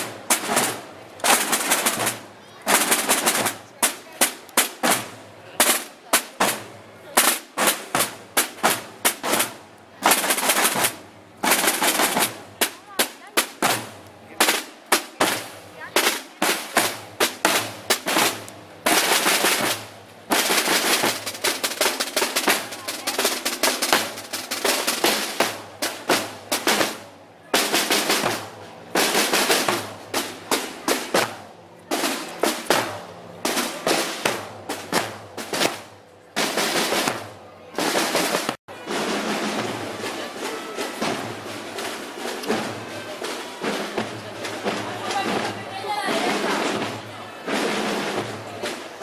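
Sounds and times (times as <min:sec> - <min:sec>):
marching drums playing rolls: 0:00.0 - 0:49.0.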